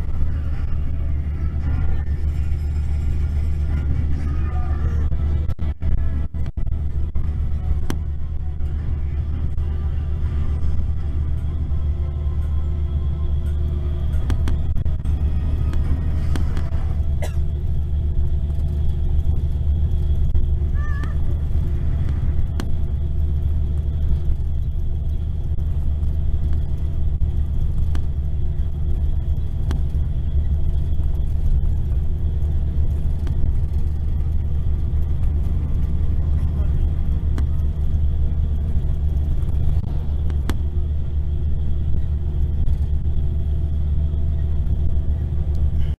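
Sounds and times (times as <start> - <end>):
coach engine and road noise: 0.0 - 45.9
faint steady tones: 0.0 - 45.9.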